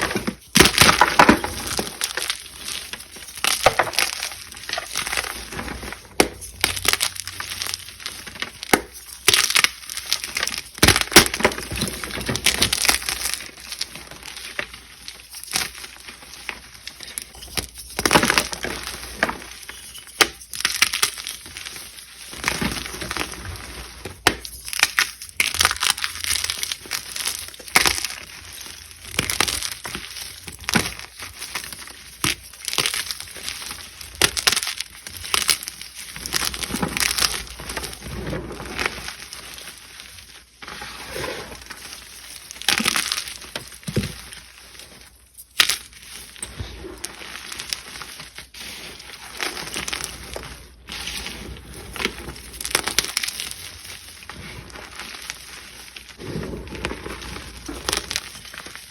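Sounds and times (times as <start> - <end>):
chalk blocks crunching: 0.0 - 58.9.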